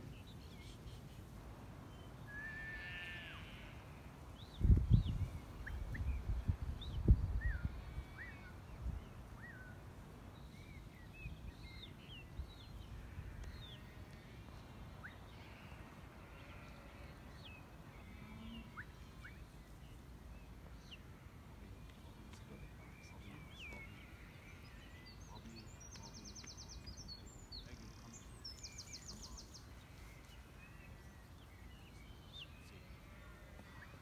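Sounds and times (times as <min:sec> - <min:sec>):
faint birdsong chirps and whistles: 0:04.3 - 0:34.0.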